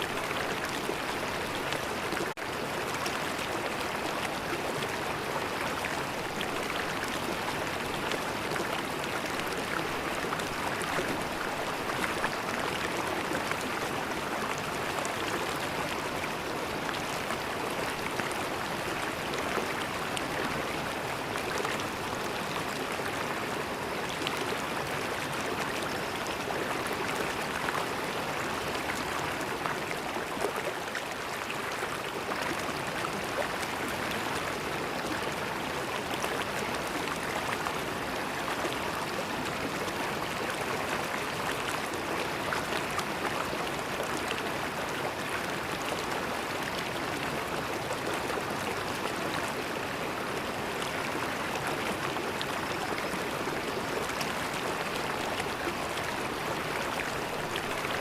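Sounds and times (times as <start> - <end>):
river water rushing and gurgling: 0.0 - 58.0.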